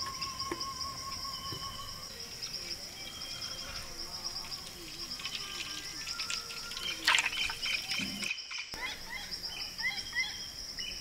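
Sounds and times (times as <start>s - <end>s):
birds chirping: 0.0s - 11.0s
crickets trilling: 0.0s - 11.0s.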